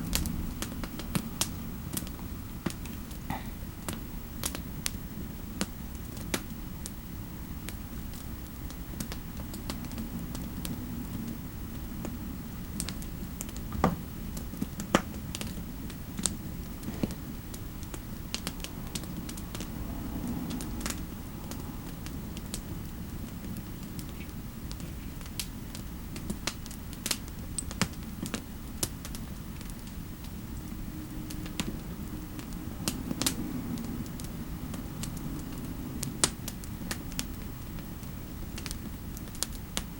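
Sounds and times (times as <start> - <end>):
low fireplace ambience: 0.0 - 39.9.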